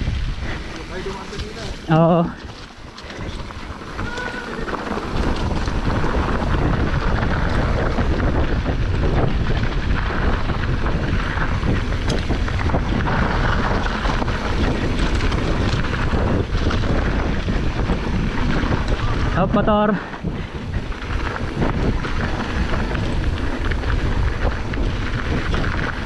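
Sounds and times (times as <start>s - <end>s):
bike rattles and knocks: 0.0s - 26.0s
tyres on dirt trail: 0.0s - 26.0s
wind buffeting microphone: 0.0s - 26.0s.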